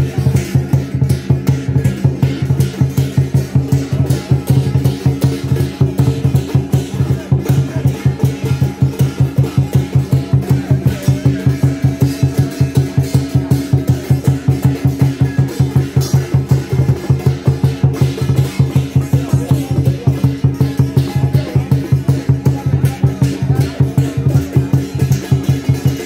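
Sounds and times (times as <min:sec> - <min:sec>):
fast drumbeat: 0:00.0 - 0:26.0.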